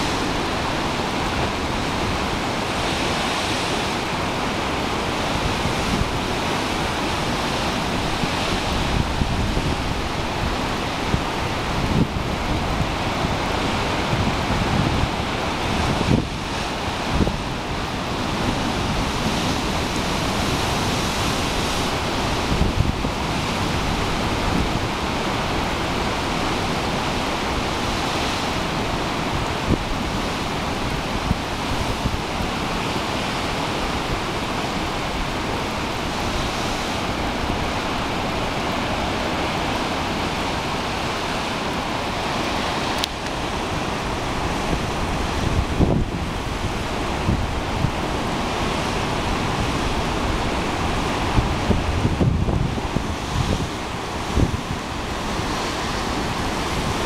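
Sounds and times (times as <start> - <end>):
surf breaking on rocks: 0.0 - 57.0
wind buffeting microphone: 0.0 - 57.0.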